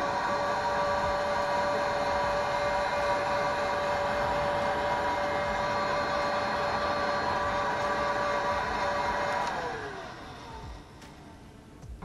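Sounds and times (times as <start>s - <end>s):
heat gun fan whine: 0.0s - 12.0s.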